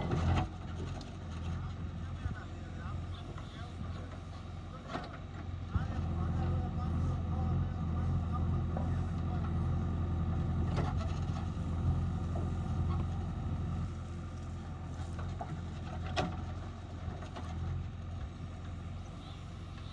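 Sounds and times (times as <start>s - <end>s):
diesel engine running under load: 0.0s - 19.9s.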